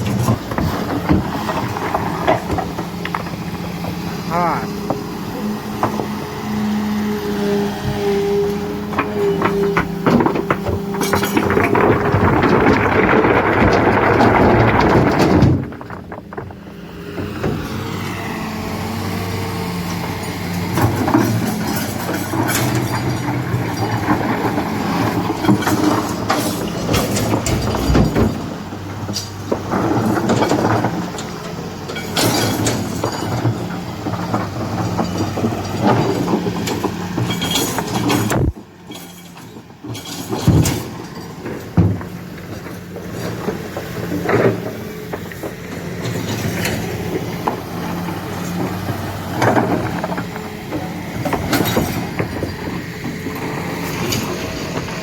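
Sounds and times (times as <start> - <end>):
knocks and clatter: 0.0 - 7.0, 7.8 - 18.4, 19.9 - 55.0
diesel engine running: 0.0 - 55.0.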